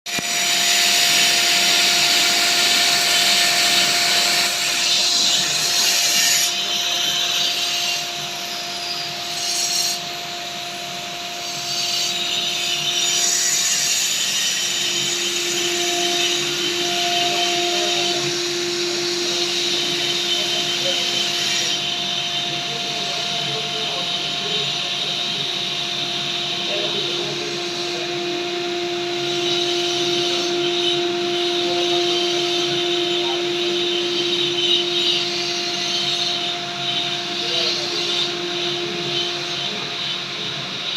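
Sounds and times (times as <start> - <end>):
cutter grinding stone: 0.1 - 40.9
router spindle whine: 0.1 - 40.9.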